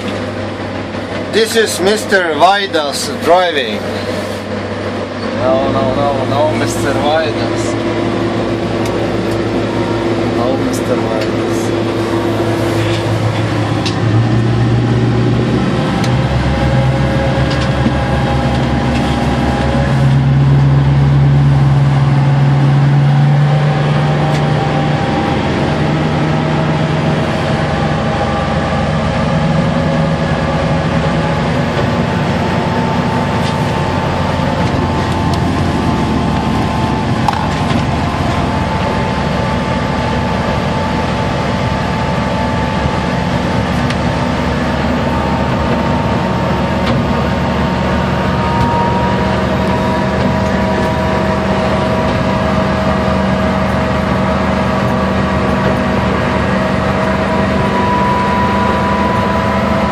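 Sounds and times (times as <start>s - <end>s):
boat engine drone: 0.0s - 59.9s.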